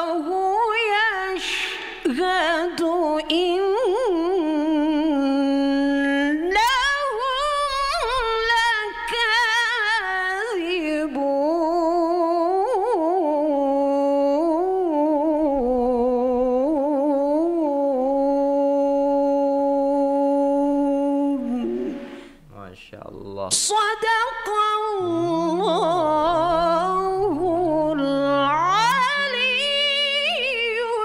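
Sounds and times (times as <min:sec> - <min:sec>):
woman reciting melodically: 0:00.0 - 0:22.4, 0:23.5 - 0:31.0.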